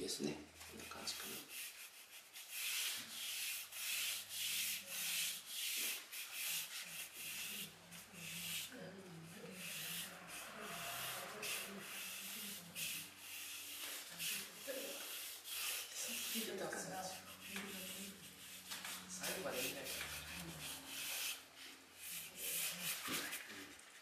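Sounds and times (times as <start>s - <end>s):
dry brush scraping paper: 0.6s - 24.0s.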